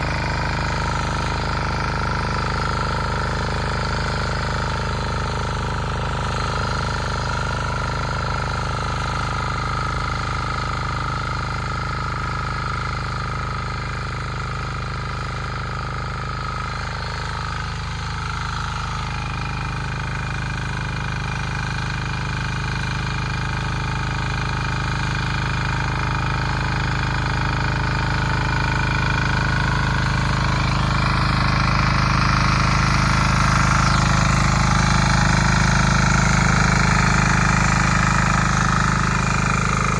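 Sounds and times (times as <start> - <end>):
diesel tiller engine running: 0.0 - 39.9.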